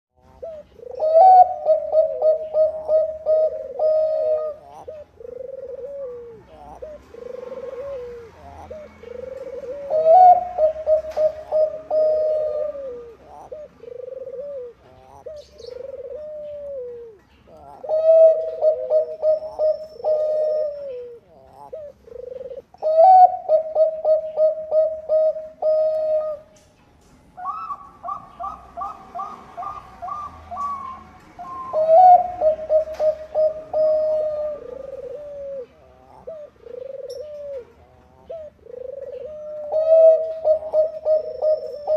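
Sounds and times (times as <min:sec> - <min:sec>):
dove cooing song: 0:00.2 - 0:26.7, 0:27.3 - 0:41.9.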